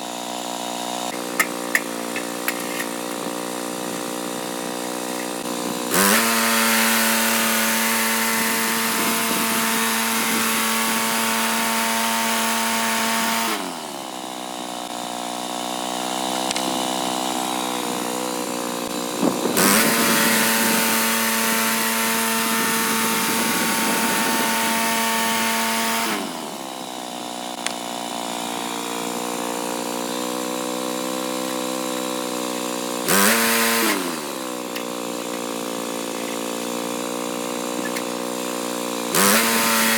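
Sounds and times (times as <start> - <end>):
sawmill engine revving: 0.0 - 39.9.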